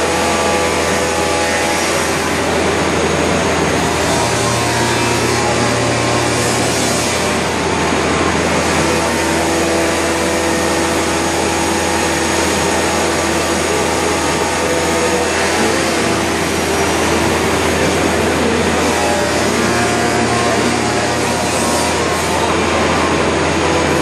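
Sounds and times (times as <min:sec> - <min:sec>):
cnc router machining wood: 0:00.0 - 0:24.0.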